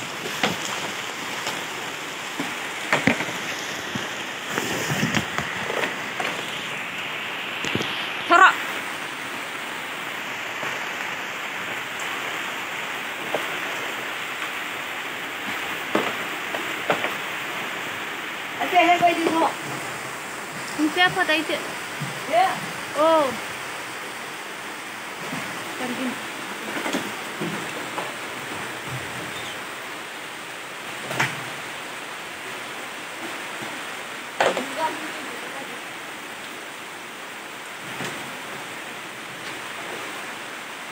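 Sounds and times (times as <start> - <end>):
water hissing over floodwater: 0.0 - 40.9.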